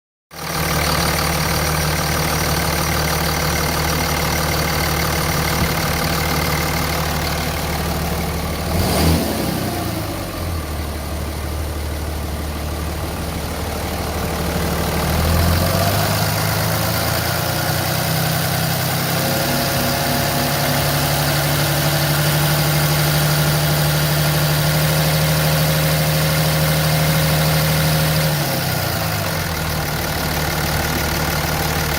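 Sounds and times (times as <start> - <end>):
diesel engine idling and revving: 0.3 - 31.9.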